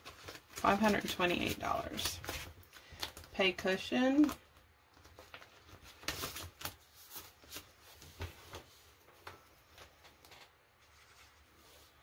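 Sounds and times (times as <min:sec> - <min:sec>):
paper and plastic rustling: 0:00.0 - 0:12.0.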